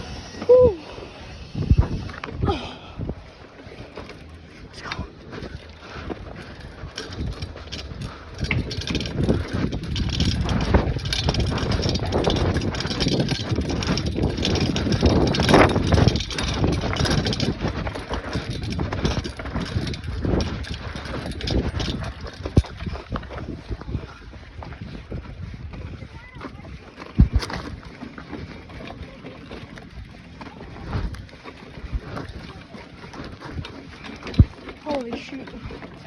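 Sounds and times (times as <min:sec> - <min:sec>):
bicycle rattling and clicking: 0:00.0 - 0:36.0
wind buffeting microphone: 0:00.0 - 0:36.0.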